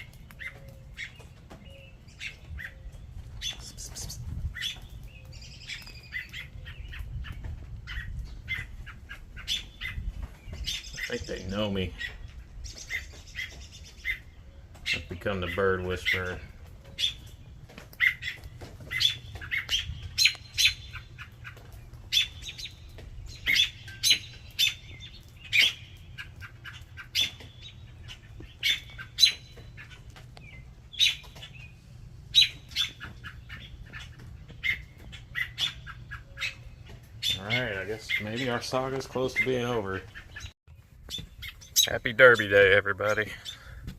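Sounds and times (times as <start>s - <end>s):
robin alarm calls: 0.0s - 43.8s.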